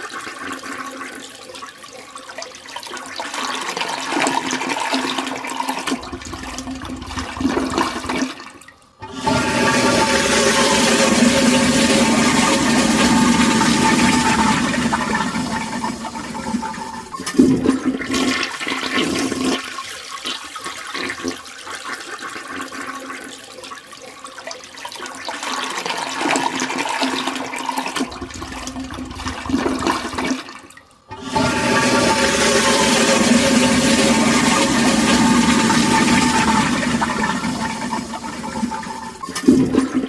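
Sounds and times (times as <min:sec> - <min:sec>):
toilet flushing: 0:00.0 - 0:40.0
water gurgling and trickling: 0:00.0 - 0:40.0.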